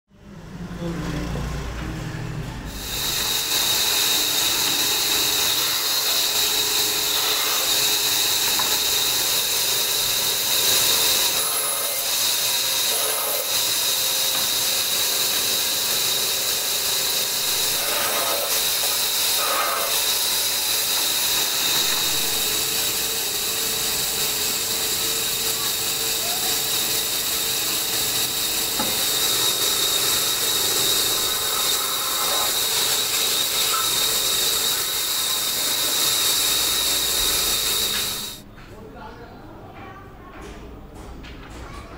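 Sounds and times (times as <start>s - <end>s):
woodworking machinery hissing: 2.6s - 38.5s
band saw cutting wood: 2.7s - 38.5s.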